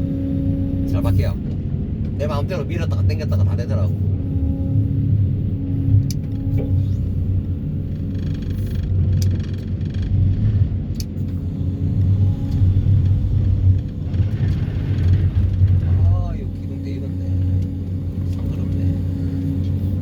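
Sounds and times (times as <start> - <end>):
excavator engine: 0.0 - 20.0
vibro hammer heavy low drone: 0.0 - 20.0.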